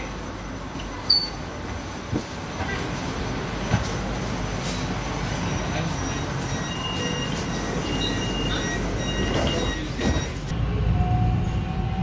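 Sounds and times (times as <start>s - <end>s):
metro train rumble: 0.0s - 12.0s.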